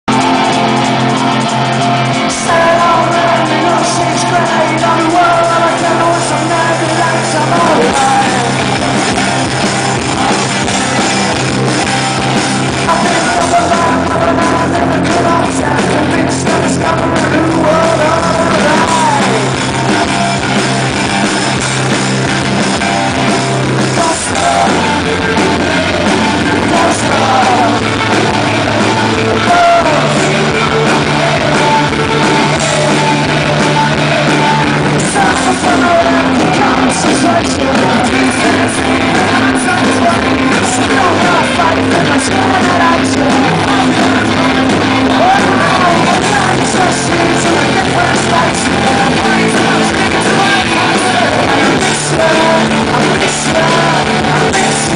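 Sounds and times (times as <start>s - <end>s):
person singing: 0.0s - 20.9s, 23.3s - 54.9s
bass guitar: 0.0s - 54.9s
drums: 0.0s - 54.9s
electric guitars: 0.0s - 54.9s.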